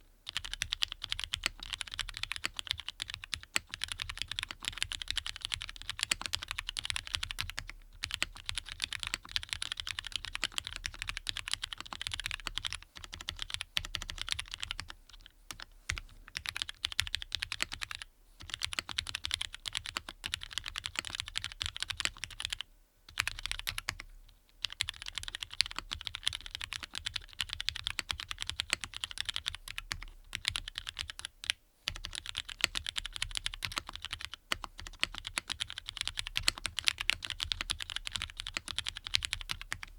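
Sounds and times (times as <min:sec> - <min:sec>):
mechanical keyboard typing: 0:00.3 - 0:39.9.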